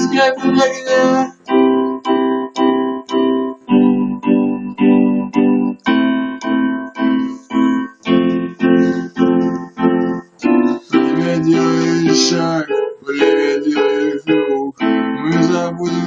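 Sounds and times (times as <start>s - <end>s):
electric keyboard chords: 0.0s - 16.0s.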